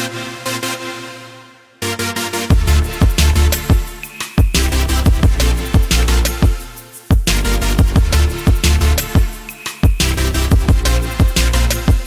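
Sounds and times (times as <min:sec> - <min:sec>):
drum and bass music: 0:01.8 - 0:12.0.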